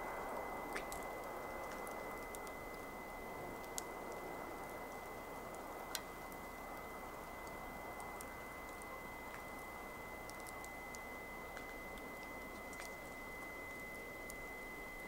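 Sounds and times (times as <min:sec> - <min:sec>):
campfire hissing and crackling: 0:00.0 - 0:15.0.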